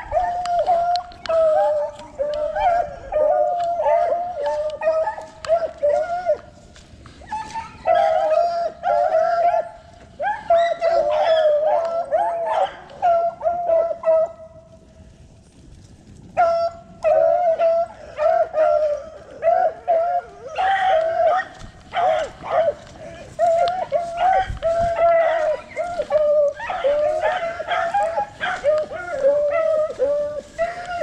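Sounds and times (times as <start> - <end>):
dogs baying and howling: 0.0 - 14.9, 16.2 - 31.0.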